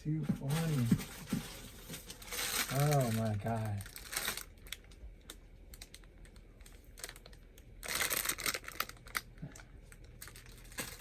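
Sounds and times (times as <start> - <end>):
packaging crinkling and rustling: 0.2 - 11.0.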